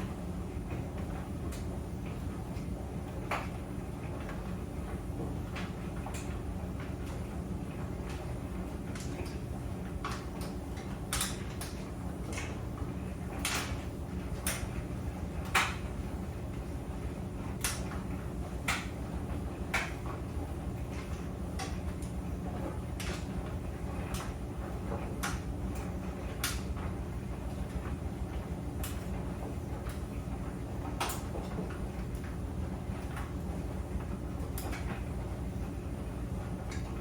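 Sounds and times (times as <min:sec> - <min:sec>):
clothes dryer drum rumble: 0:00.0 - 0:37.0.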